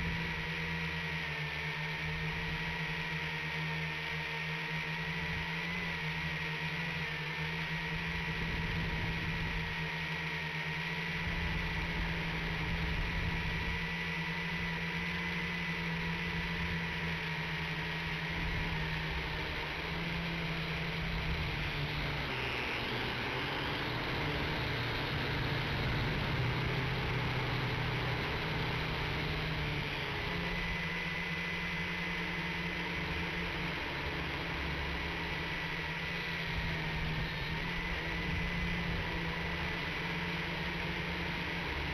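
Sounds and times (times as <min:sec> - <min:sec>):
drone propellers buzzing: 0:00.0 - 0:41.9.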